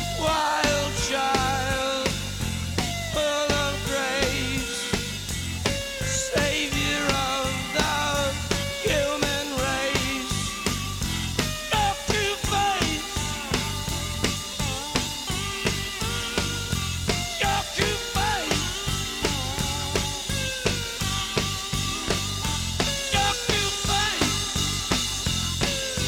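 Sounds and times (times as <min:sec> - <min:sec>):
rock music: 0:00.0 - 0:26.0.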